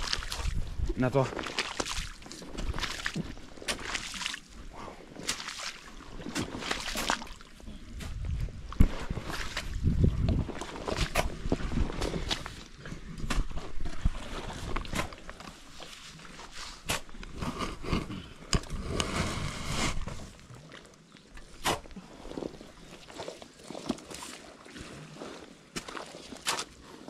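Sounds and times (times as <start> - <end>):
footsteps squelching through mud: 0.0 - 18.0, 20.2 - 27.0.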